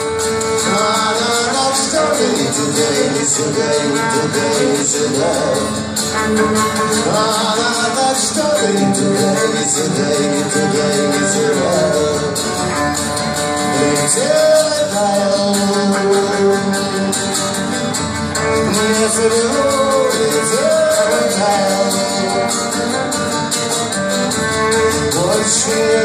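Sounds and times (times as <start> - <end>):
acoustic guitar strumming: 0.0 - 26.0
bowed double bass: 0.0 - 26.0.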